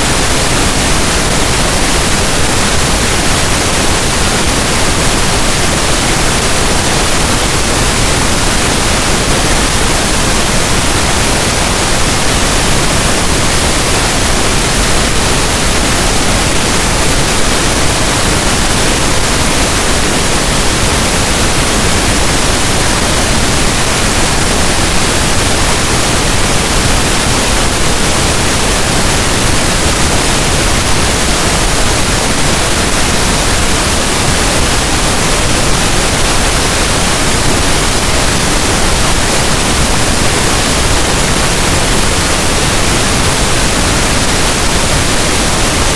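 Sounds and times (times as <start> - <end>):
pink noise hiss: 0.0 - 45.9.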